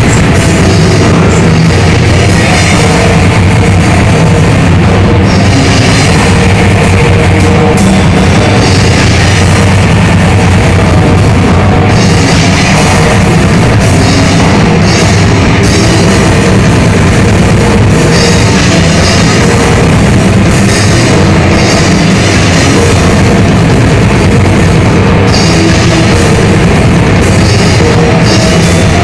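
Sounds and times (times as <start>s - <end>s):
distorted electric guitar: 0.0s - 29.0s
drums: 0.0s - 29.0s
heavy rock band playing: 0.0s - 29.0s.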